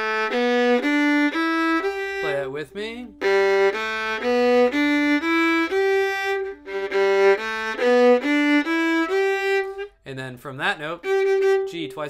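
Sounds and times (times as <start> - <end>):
fiddle bowing a scale: 0.0 - 10.0, 10.8 - 12.0.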